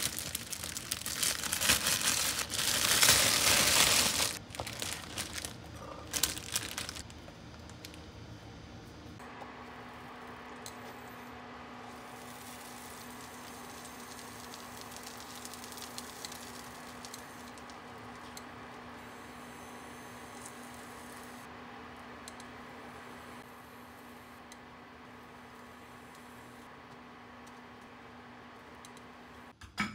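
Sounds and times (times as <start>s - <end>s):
cooktop low hum: 0.0s - 29.9s.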